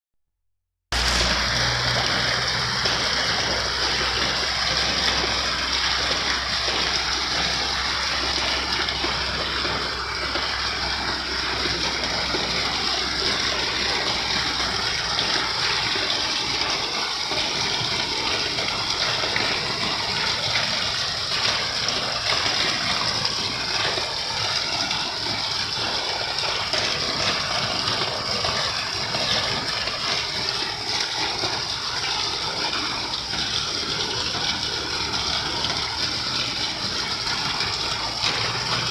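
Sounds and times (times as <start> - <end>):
rushing water: 0.9 - 38.9.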